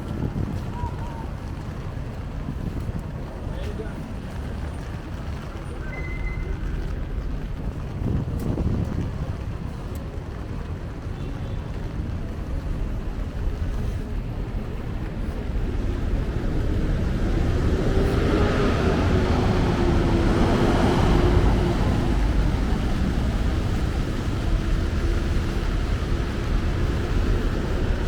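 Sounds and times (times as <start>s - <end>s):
traffic on wet road: 0.0s - 28.0s
wind rumbling on microphone: 0.0s - 28.0s
vehicle humming: 4.4s - 28.0s.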